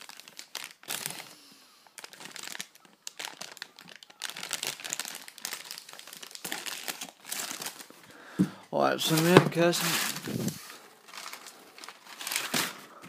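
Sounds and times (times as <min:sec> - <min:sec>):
plastic bag crinkling: 0:00.0 - 0:08.1, 0:09.0 - 0:13.0.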